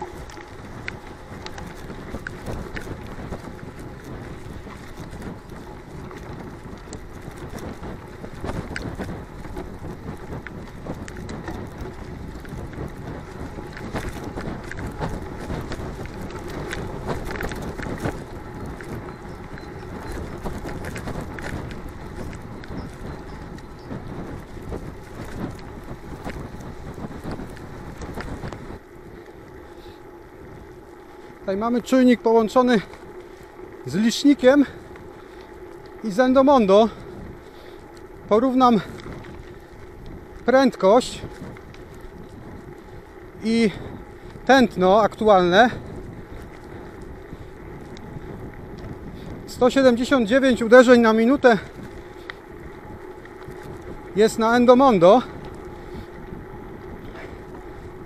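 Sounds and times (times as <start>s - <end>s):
bike rattles and knocks: 0.0s - 58.0s
bike tyre noise: 0.0s - 58.0s
wind rushing over microphone: 0.0s - 58.0s.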